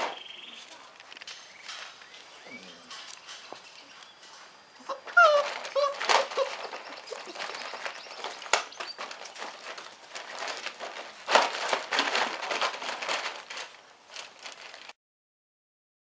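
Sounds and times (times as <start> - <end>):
plastic tarp crinkling under paws: 0.0 - 15.0.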